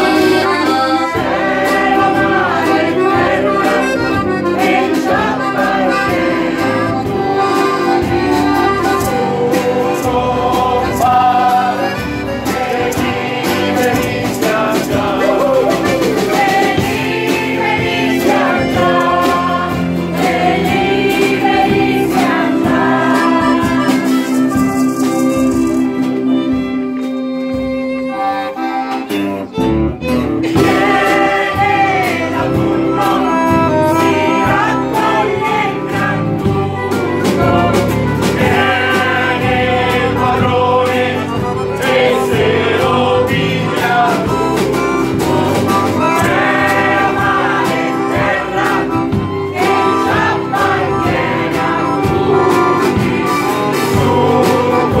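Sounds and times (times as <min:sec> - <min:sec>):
mixed choir singing: 0:00.0 - 0:24.6, 0:30.4 - 0:55.0
accordion: 0:00.0 - 0:55.0
acoustic guitar: 0:00.0 - 0:55.0
electric bass: 0:00.0 - 0:55.0.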